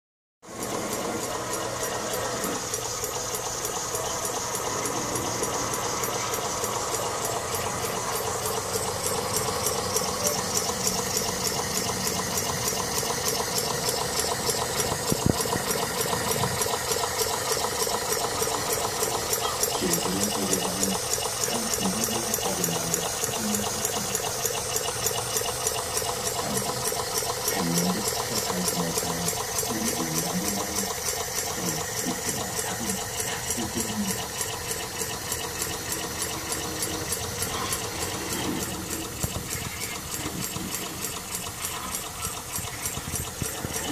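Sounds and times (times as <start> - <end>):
light mechanical clatter: 0.4 - 43.9.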